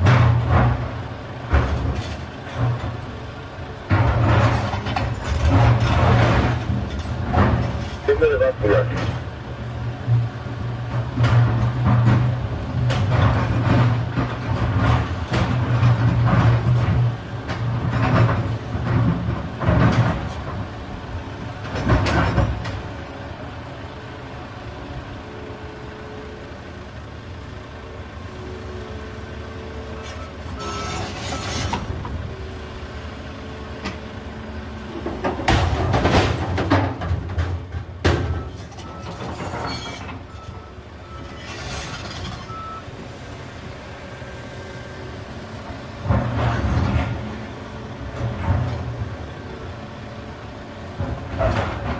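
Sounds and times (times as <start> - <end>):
excavator diesel engine: 0.0 - 51.9.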